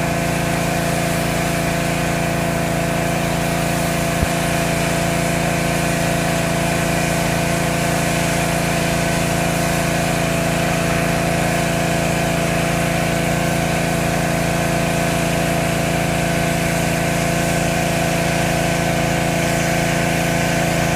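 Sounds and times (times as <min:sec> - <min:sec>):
pressure washer engine running: 0:00.0 - 0:20.9.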